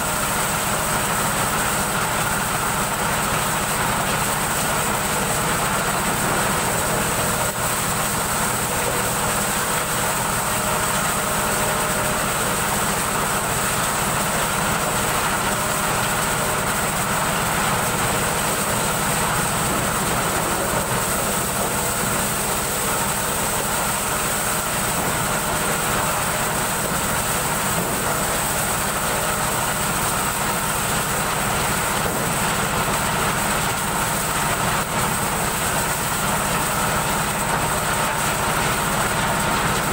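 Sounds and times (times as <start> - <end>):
corn sheller rattling and whirring: 0.0 - 39.9.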